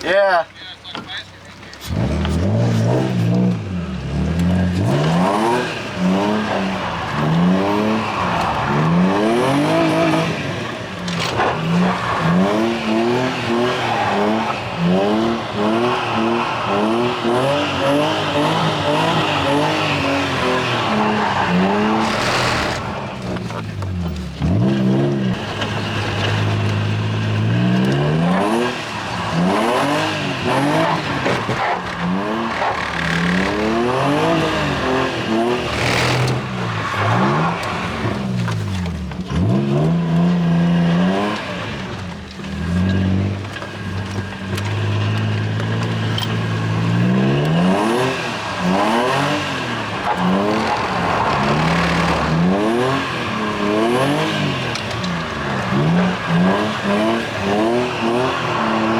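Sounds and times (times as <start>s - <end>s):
car engine revving hard: 1.8s - 58.9s.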